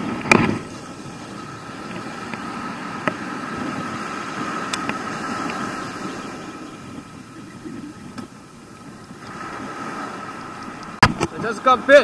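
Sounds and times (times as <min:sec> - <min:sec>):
wind on microphone: 0:00.0 - 0:11.6
surf breaking: 0:00.0 - 0:12.0.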